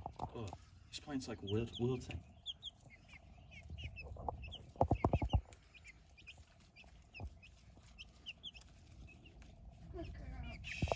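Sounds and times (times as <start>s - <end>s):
chicks peeping: 0.0s - 10.9s.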